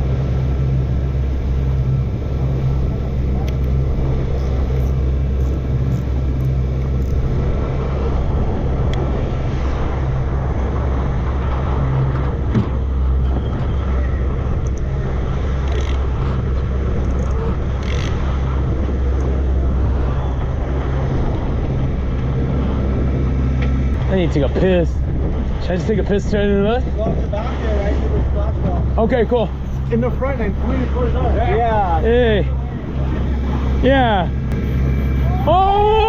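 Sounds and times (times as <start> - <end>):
boat engine humming: 0.0 - 36.0
constant rushing noise: 0.0 - 36.0.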